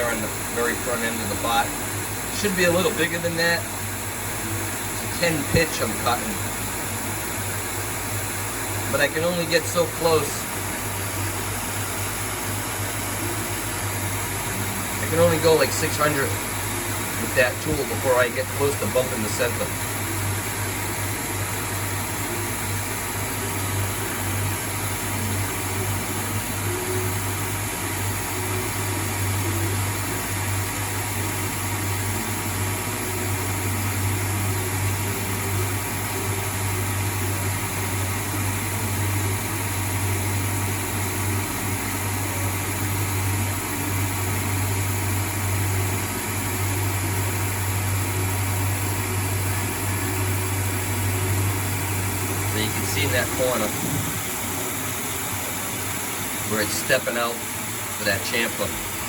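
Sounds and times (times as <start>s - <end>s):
coolant spray hiss: 0.0s - 59.0s
lathe motor and spindle hum: 0.0s - 59.0s.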